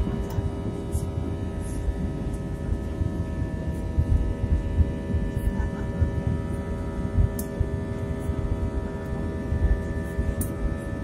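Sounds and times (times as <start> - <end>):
airplane cabin rumble: 0.0 - 11.0
steady tonal hum: 0.0 - 11.0.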